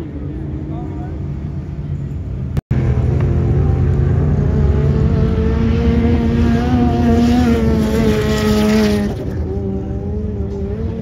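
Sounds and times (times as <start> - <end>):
engine running at high revs: 0.0 - 11.0.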